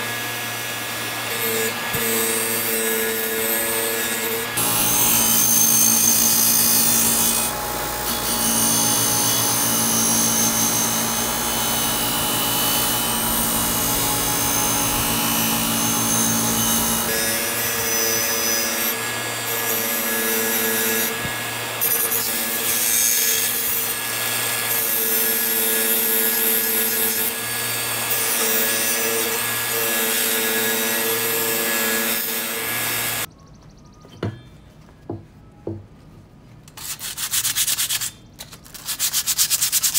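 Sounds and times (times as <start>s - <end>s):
power tool grinding metal: 0.0s - 33.3s.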